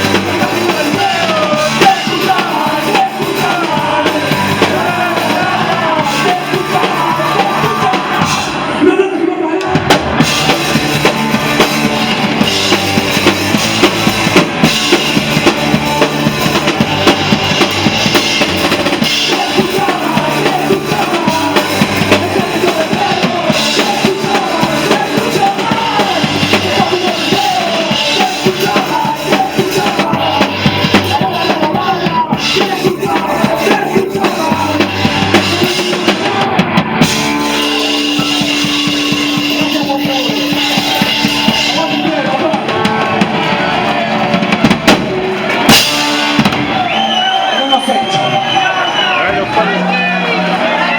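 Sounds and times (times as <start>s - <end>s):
punk rock band playing: 0.0s - 50.9s.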